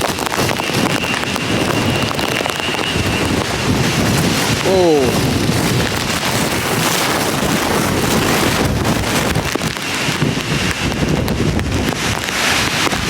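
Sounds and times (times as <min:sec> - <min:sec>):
rain: 0:00.0 - 0:13.0
strong wind buffeting microphone: 0:00.0 - 0:13.0.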